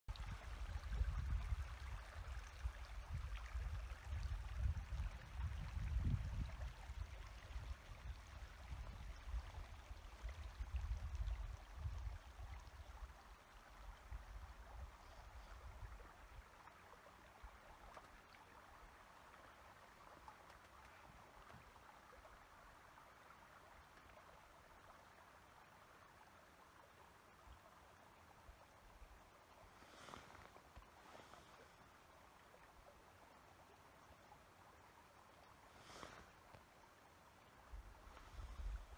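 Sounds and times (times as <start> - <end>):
stream running over stones: 0.1 - 38.9.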